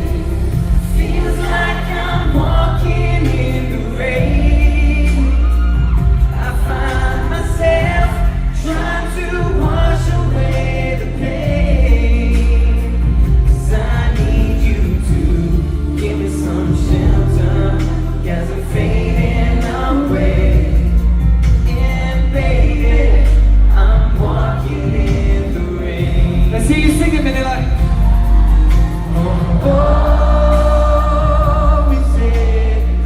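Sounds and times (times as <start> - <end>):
full band with heavy bass: 0.0 - 33.0
male voices singing: 0.0 - 33.0.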